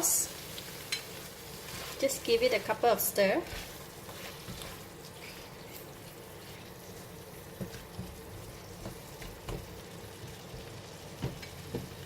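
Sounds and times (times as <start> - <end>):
sauce bubbling in a pan: 0.0 - 12.0.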